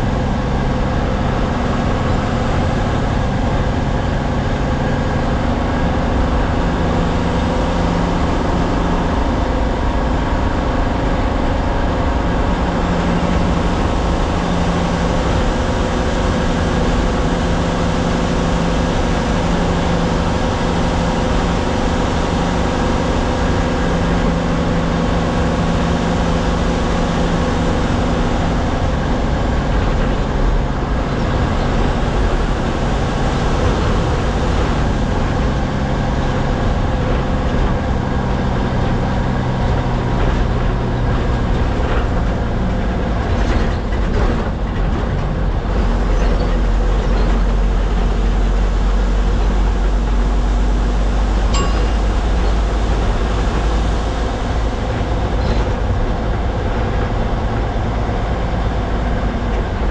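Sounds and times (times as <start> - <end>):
bus diesel engine drone: 0.0 - 59.9
road and tyre rumble: 0.0 - 59.9.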